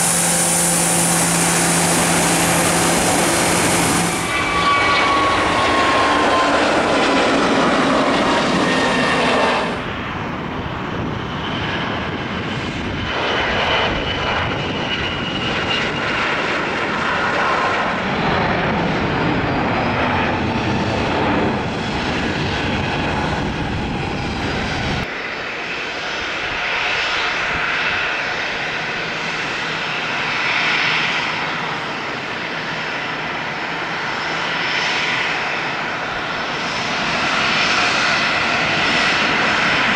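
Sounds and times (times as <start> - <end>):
jet engine whine: 0.0 - 39.9
jet taking off roar: 0.0 - 39.9
jet taxiing whine: 0.0 - 39.9.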